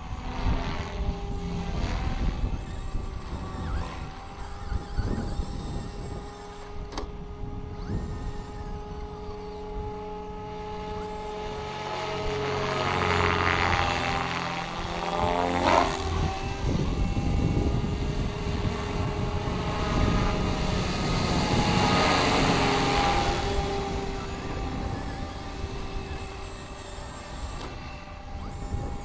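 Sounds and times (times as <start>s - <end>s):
model helicopter rotor whine: 0.0s - 29.0s.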